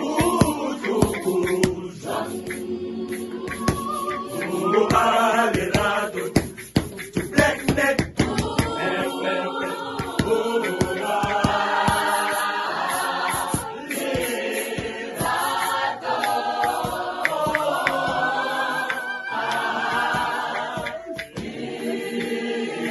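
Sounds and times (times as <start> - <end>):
a cappella choir singing: 0.0 - 22.9
sharp percussive hits: 0.0 - 22.9.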